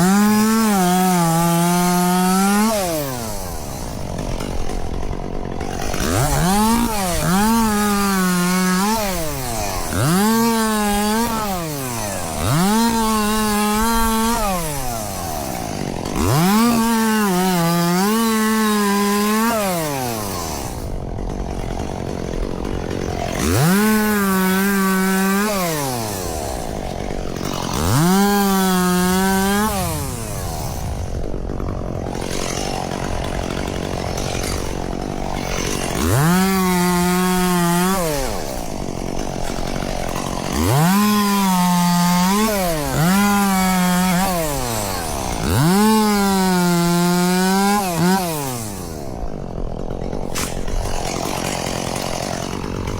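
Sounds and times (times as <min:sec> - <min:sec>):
chainsaw engine revving: 0:00.0 - 0:52.9.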